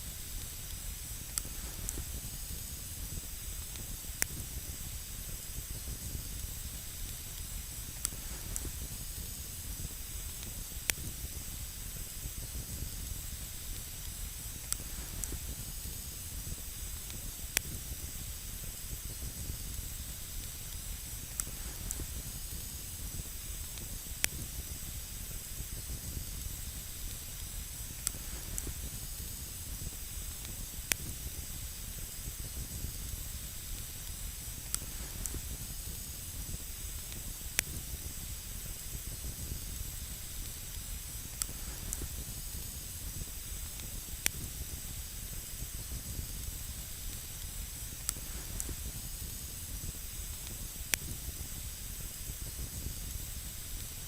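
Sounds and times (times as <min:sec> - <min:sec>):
campfire hissing: 0:00.0 - 0:54.0.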